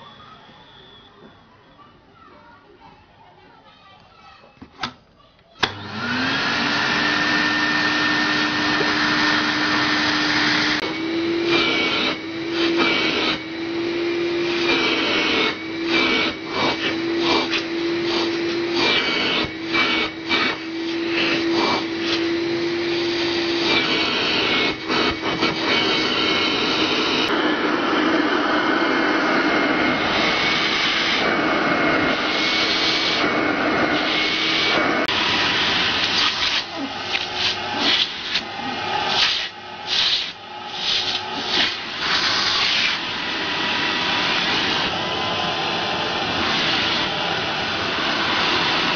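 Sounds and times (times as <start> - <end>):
vacuum cleaner motor whine: 0.0 - 1.8, 5.6 - 48.9.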